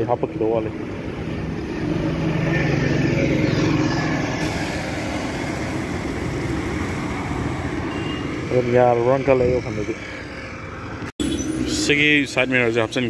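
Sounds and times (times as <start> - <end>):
street noise: 0.0 - 13.0
vehicle engine running: 0.2 - 13.0.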